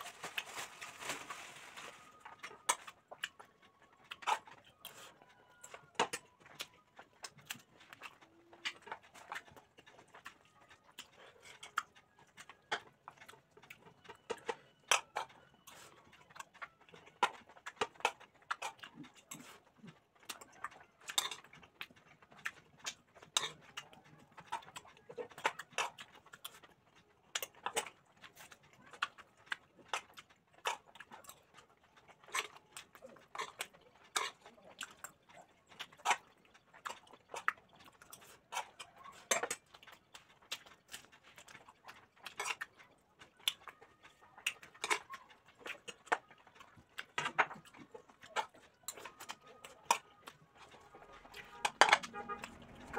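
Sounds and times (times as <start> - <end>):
chewing and lip-smacking: 1.9 - 52.9.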